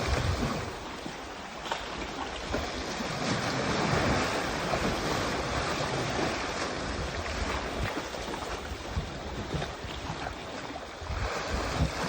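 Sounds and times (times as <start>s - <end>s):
wind buffeting microphone: 0.0s - 1.2s, 2.4s - 12.0s
sea waves washing: 0.0s - 12.0s.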